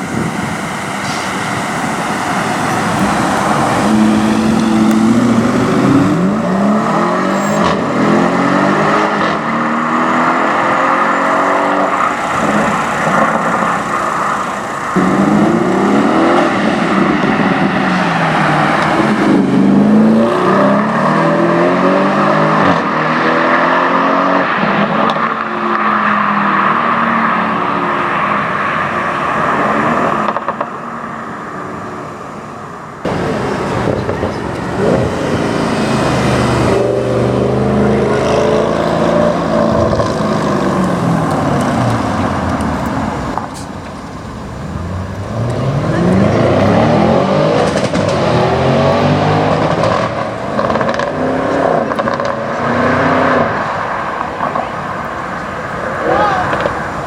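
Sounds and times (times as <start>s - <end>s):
car engines revving and accelerating: 0.0s - 57.0s.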